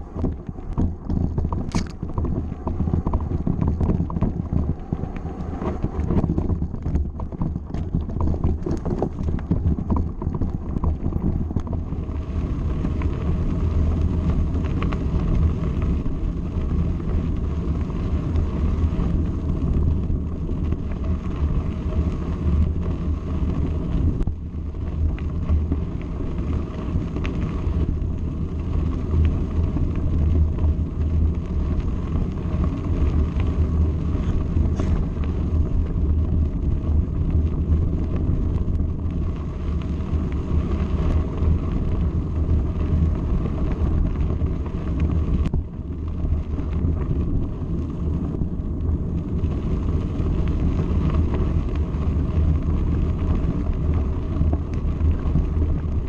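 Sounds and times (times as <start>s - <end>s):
tyres rumbling over stones: 0.0s - 56.0s
wind buffeting microphone: 0.0s - 56.0s.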